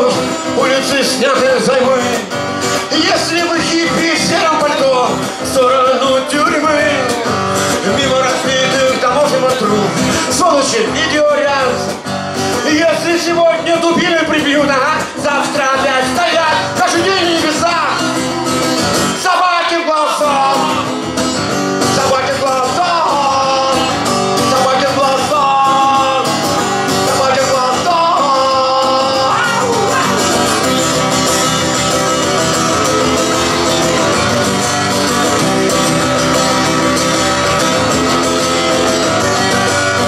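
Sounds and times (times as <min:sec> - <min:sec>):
man singing: 0:00.0 - 0:21.2, 0:21.8 - 0:34.6
guitar playing: 0:00.0 - 0:40.0.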